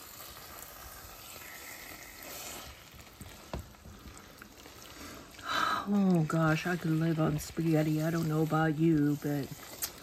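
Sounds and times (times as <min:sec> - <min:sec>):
sauce sizzling in a skillet: 0:00.0 - 0:10.0
spatula stirring: 0:00.0 - 0:10.0.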